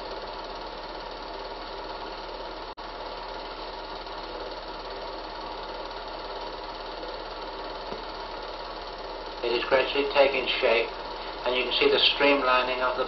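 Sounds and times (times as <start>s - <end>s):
film projector whirring: 0.0s - 13.0s
low mains hum: 0.0s - 13.0s.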